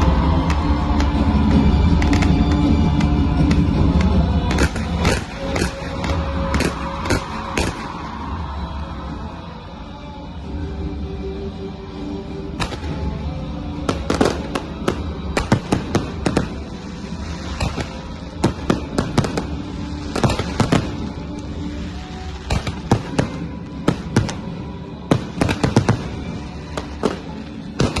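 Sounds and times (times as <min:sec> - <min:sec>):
fireworks bursting: 0:00.0 - 0:08.6, 0:12.6 - 0:28.0.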